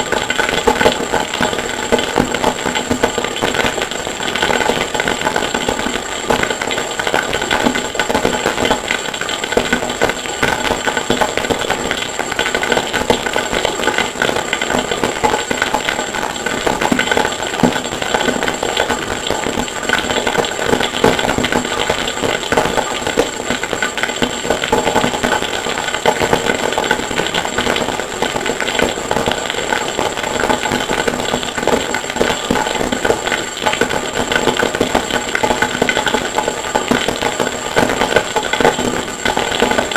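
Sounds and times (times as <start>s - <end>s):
distorted noise music: 0.0s - 39.9s.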